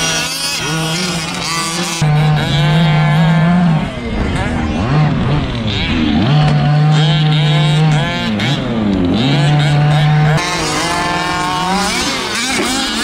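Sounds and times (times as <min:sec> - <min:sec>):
distant rc buggy engines revving: 0:00.0 - 0:13.0
rc truck engine at high revs: 0:00.0 - 0:13.0.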